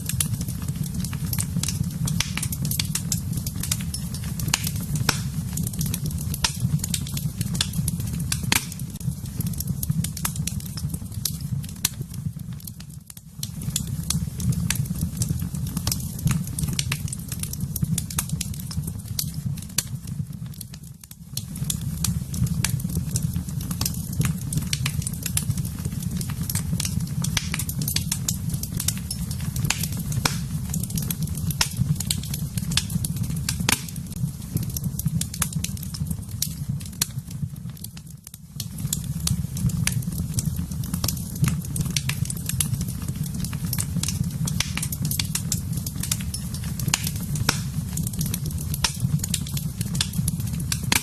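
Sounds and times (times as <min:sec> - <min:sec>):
low rush of flames: 0:00.0 - 0:12.8, 0:13.4 - 0:51.0
wood fire crackling and popping: 0:00.0 - 0:51.0.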